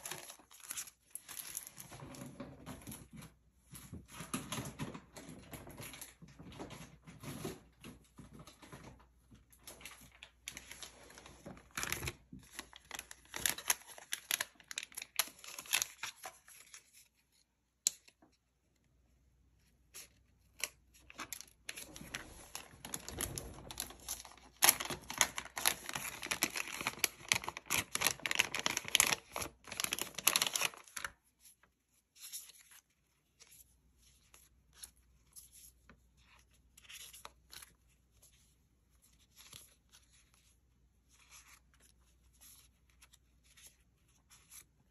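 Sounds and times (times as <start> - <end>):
plastic and paper rustling: 0.0 - 17.5, 19.6 - 44.9.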